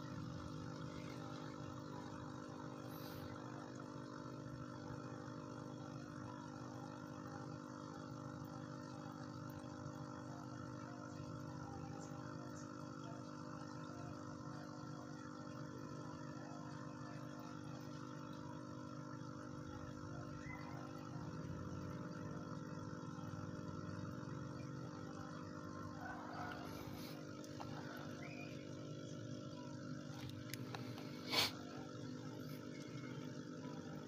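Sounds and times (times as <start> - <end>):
air pump humming: 0.0 - 12.4, 15.2 - 34.0.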